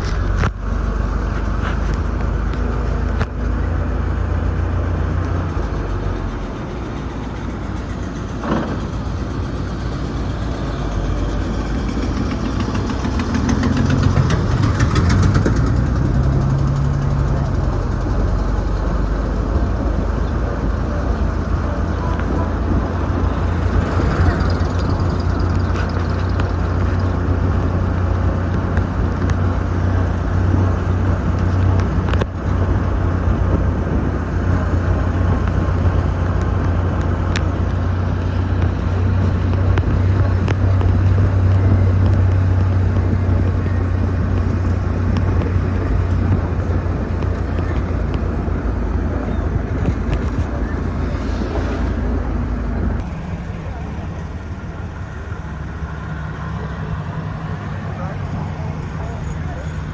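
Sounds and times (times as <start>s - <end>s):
wind noise: 0.0s - 55.9s
car engine humming: 0.0s - 59.9s
road noise: 0.0s - 59.9s.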